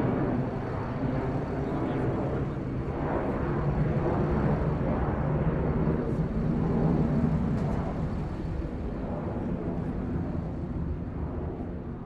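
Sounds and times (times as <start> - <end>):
aeroplane engine rumble: 0.0 - 12.0.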